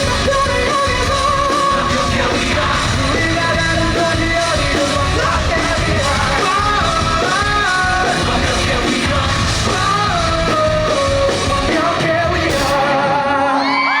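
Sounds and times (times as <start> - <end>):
lead vocal melody: 0.0 - 14.0
live rock band playing: 0.0 - 14.0.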